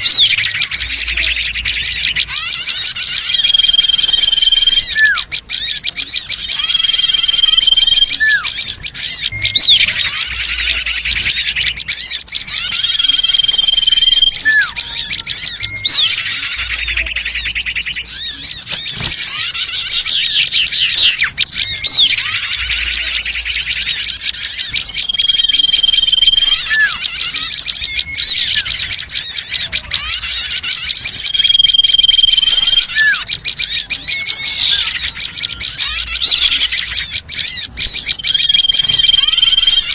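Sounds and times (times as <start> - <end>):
held whistle: 0.0 - 39.9
small birds chattering: 0.0 - 39.9.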